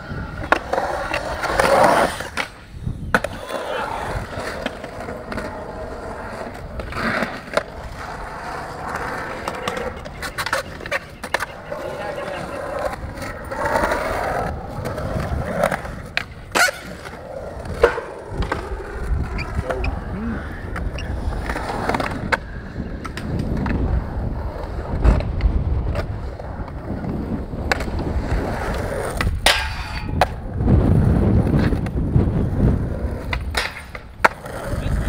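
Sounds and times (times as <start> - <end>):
skateboard clacks: 0.0 - 35.0
skateboard wheels rolling on concrete: 0.0 - 35.0.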